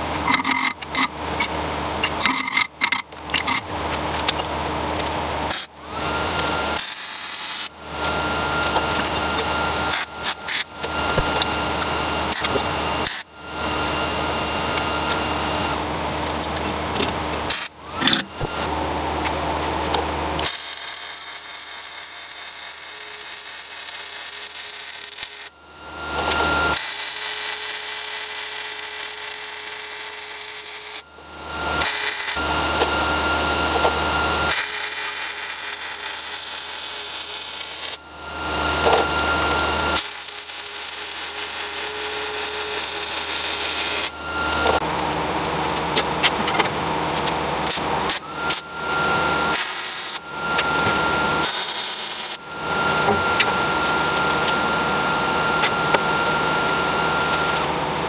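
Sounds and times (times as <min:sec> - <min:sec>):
power tools working steel: 0:00.0 - 0:58.0.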